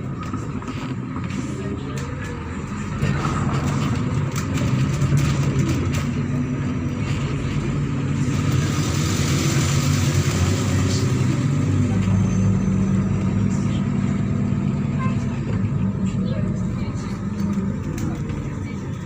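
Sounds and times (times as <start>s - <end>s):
bus engine humming: 0.0s - 19.0s
road noise: 0.0s - 19.0s.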